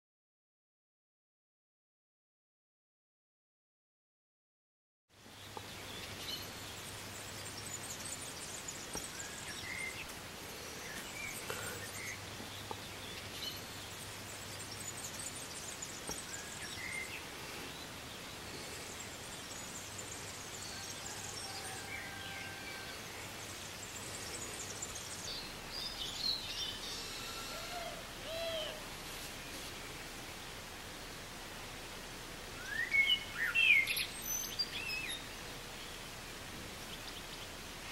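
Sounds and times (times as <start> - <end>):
steady outdoor hiss: 5.1 - 37.9.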